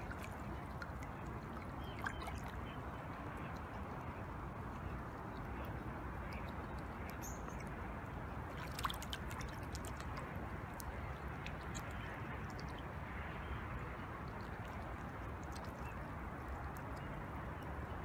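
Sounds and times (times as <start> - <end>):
geese dabbling in water: 0.0 - 18.0.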